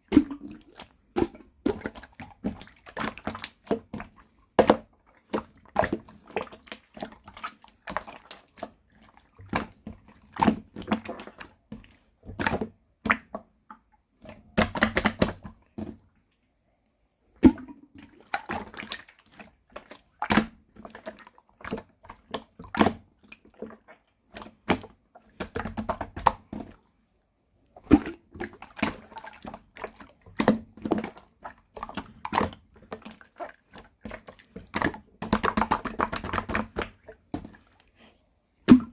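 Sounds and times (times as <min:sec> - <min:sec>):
slime squelching: 0:00.1 - 0:13.4, 0:17.4 - 0:26.8, 0:27.7 - 0:38.9.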